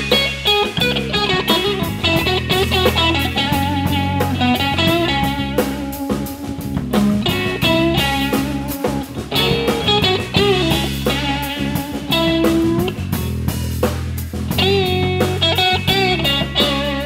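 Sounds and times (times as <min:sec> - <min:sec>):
bass guitar: 0:00.0 - 0:17.0
drum kit: 0:00.0 - 0:17.0
lead electric guitar: 0:00.0 - 0:17.0.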